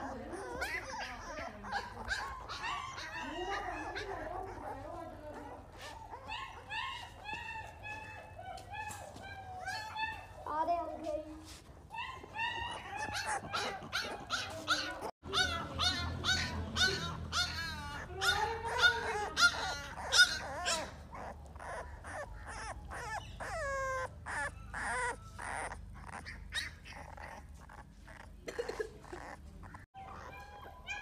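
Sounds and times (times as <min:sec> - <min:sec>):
puppy whining and yelping: 0:00.0 - 0:31.0.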